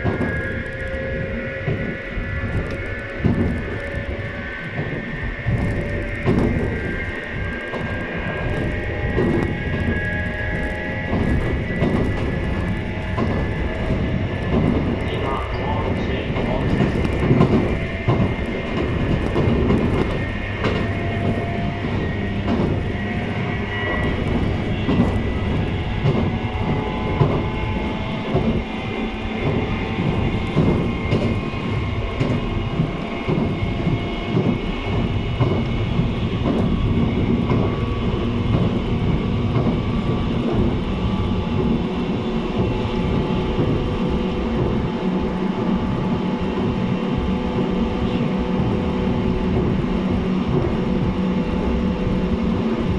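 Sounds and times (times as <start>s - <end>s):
train motor whining tones: 0.0s - 52.9s
train wheels rumbling on rail: 0.0s - 52.9s.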